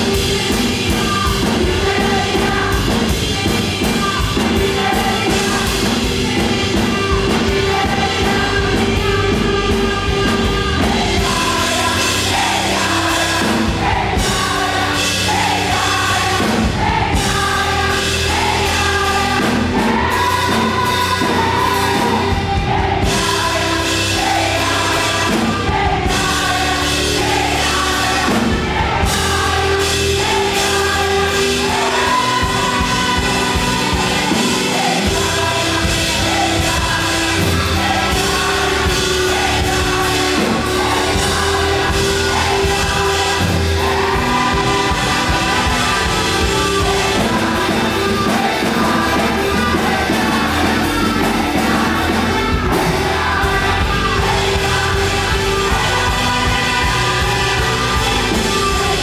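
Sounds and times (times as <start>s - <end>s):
band with drums and bass: 0.0s - 59.0s
group of voices singing: 0.0s - 59.0s.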